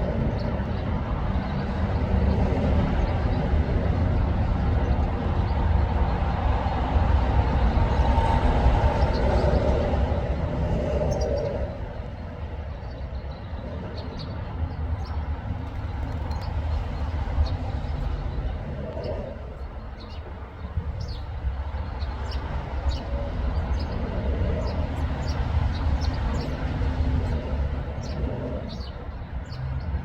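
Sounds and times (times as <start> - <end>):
low rumble of traffic: 0.0 - 30.0.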